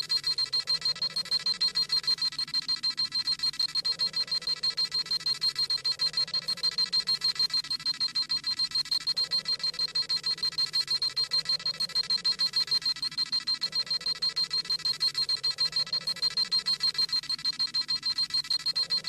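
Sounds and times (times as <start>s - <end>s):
rapid high electronic beeping: 0.0s - 19.0s.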